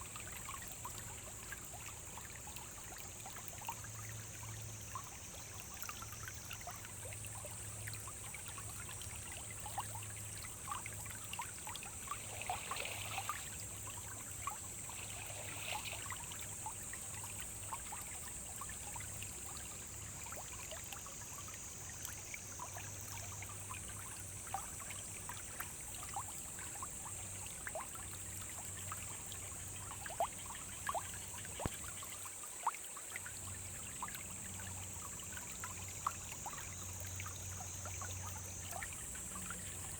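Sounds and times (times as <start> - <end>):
water splashes and drips: 0.0 - 39.9.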